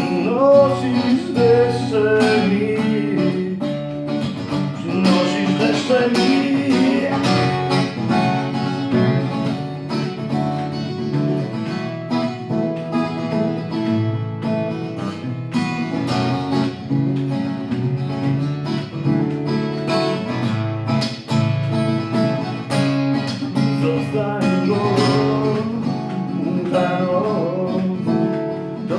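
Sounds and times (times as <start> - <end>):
acoustic guitar playing: 0.0 - 28.9.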